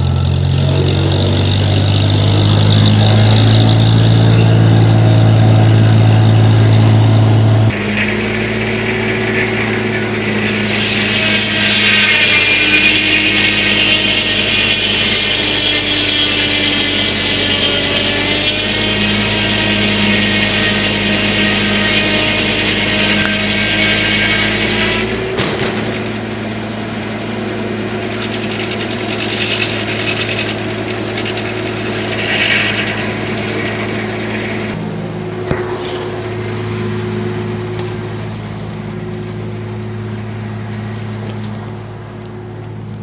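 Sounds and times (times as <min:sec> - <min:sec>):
circular saw cutting log: 0:00.0 - 0:43.0
sawmill running hum: 0:00.0 - 0:43.0.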